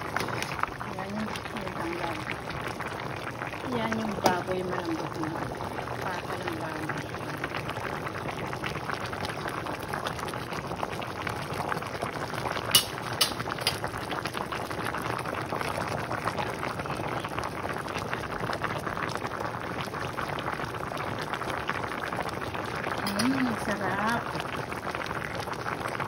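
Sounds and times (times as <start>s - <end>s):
soup boiling and bubbling: 0.0s - 26.0s.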